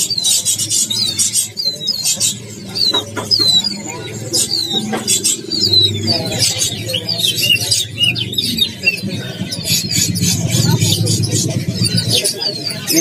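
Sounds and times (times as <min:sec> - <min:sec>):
songbirds chirping and calling: 0:00.0 - 0:13.0.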